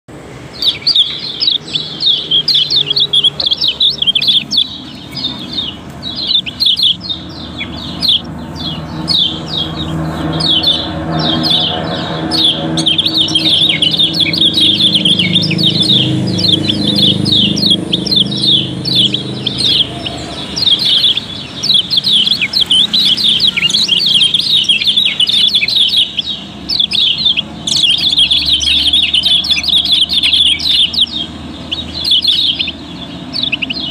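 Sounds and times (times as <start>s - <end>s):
birds chirping rapidly: 0.1s - 33.9s.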